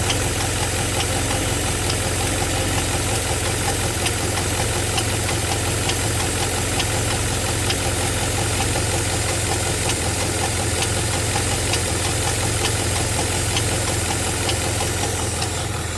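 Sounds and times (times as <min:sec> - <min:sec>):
car engine idling: 0:00.0 - 0:15.9
faint sharp engine tick: 0:00.0 - 0:15.9.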